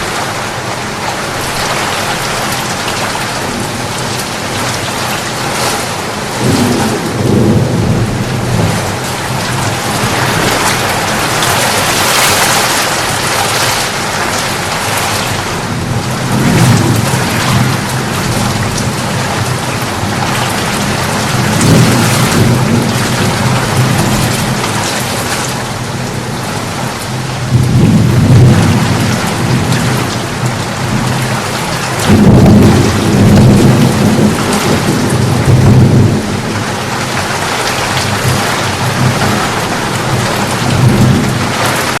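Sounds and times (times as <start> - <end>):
rain falling: 0.0 - 42.0
thunder rumbling: 1.3 - 42.0.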